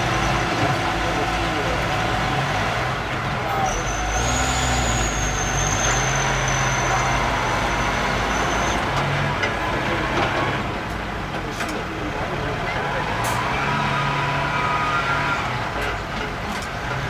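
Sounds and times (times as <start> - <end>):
dump truck engine running: 0.0 - 17.0.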